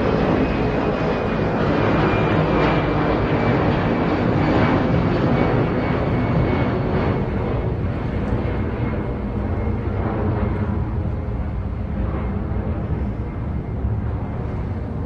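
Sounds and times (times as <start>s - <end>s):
airplane engine rush: 0.0s - 15.0s.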